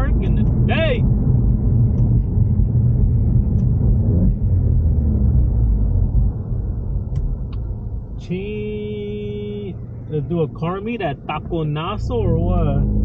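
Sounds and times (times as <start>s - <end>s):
car rumbling on the move: 0.0s - 13.0s.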